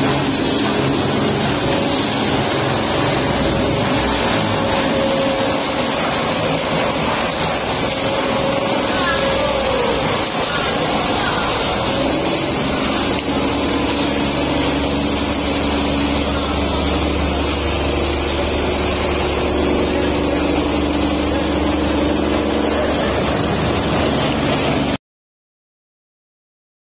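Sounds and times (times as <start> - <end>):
stalk chopper shredding: 0.0 - 25.0.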